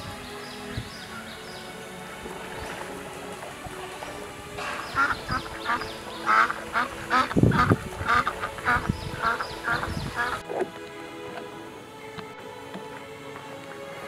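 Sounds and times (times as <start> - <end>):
ducks quacking: 0.0 - 11.8.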